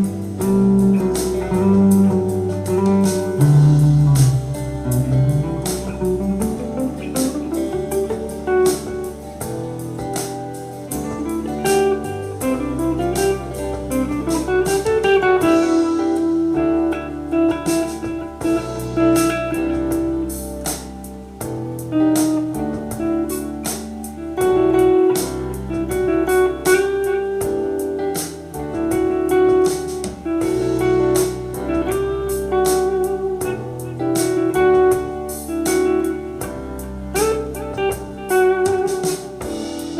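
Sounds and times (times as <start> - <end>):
bass: 0.0 - 39.9
drum beat: 0.0 - 39.9
electric guitar lead line: 0.0 - 39.9.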